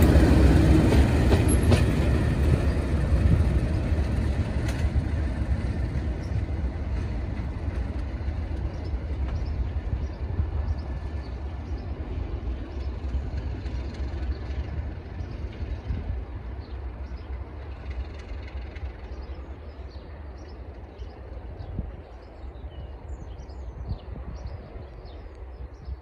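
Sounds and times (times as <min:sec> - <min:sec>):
train wheels: 0:00.0 - 0:22.0
locomotive engines rumbling: 0:00.0 - 0:26.0.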